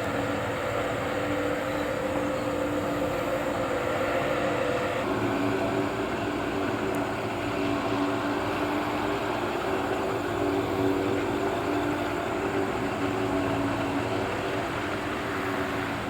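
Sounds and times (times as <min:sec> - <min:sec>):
farm machinery droning: 0:00.0 - 0:16.0.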